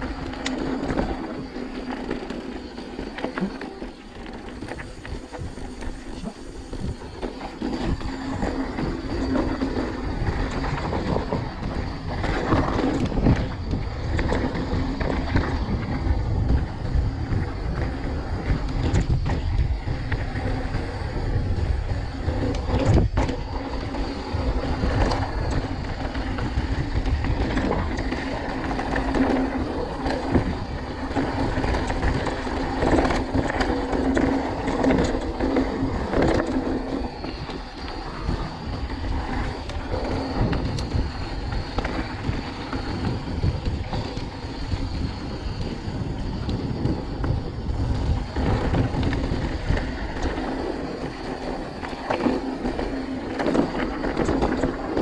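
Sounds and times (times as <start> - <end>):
bike rattling over stones: 0.0 - 55.0
wind buffeting microphone: 0.0 - 55.0.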